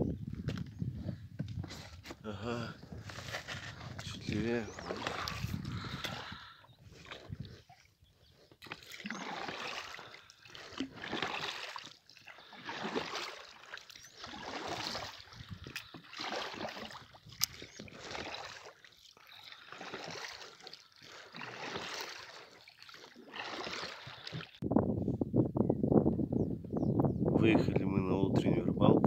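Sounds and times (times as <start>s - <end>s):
oars swishing through water: 0.4s - 24.6s.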